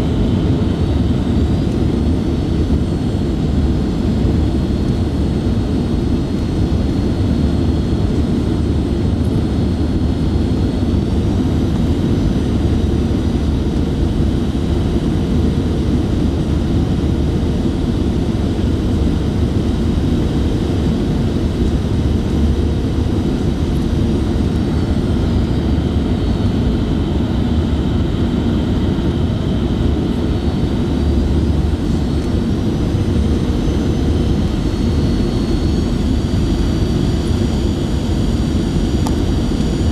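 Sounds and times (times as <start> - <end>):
jet engines and rushing air: 0.0 - 39.9.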